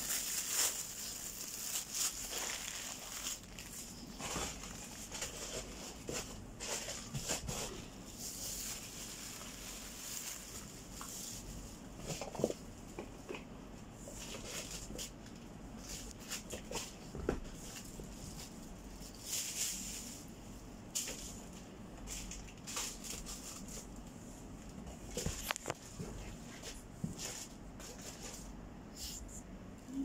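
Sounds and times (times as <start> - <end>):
plastic bags and clothing rustling: 0.0 - 13.4, 14.0 - 28.5.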